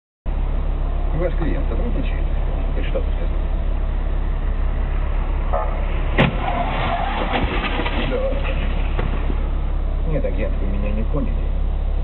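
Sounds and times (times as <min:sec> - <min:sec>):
car engine idling: 0:00.3 - 0:12.0.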